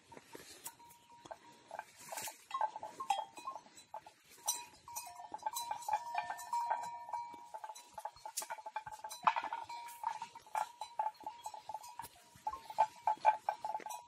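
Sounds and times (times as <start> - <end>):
rustling brush: 0.0 - 14.0
bell clinking: 0.7 - 14.0.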